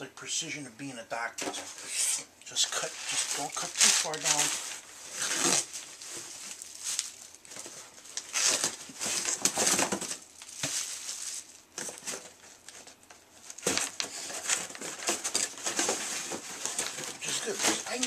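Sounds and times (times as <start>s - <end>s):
plastic packaging crinkling: 2.5s - 18.0s.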